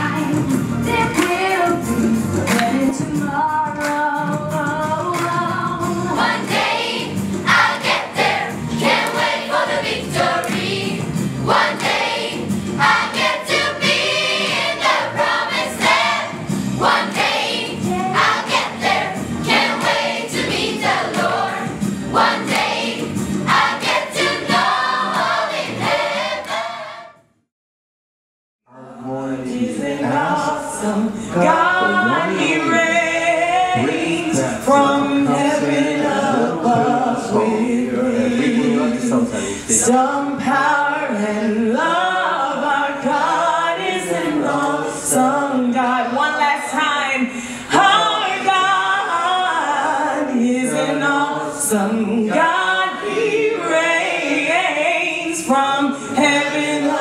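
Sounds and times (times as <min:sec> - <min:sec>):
choir singing with accompaniment: 0:00.0 - 0:27.2, 0:28.7 - 0:46.8, 0:47.6 - 0:57.0.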